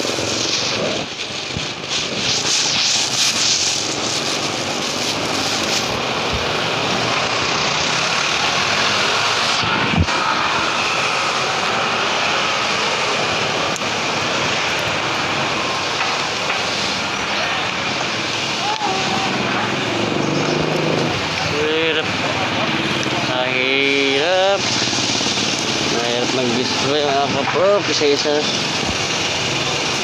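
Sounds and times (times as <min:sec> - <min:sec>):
motorcycles passing: 0:00.0 - 0:30.0
street traffic noise: 0:00.0 - 0:30.0.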